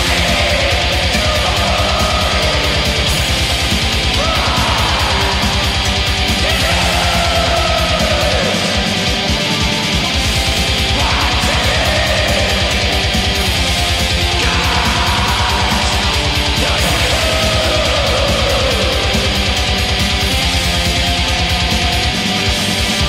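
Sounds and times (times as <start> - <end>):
distorted electric guitars: 0.0 - 23.0
fast pulsing drums: 0.0 - 23.0.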